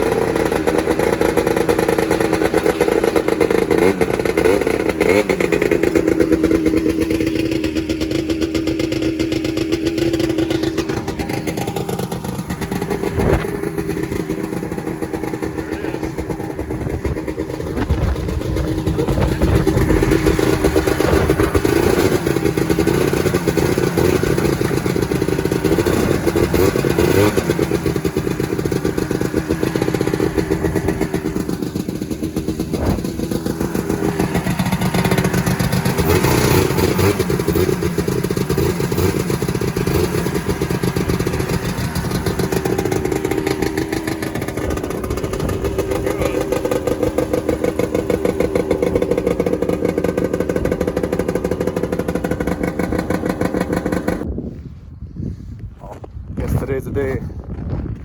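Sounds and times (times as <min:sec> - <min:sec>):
snowmobile engine running: 0:00.0 - 0:54.3.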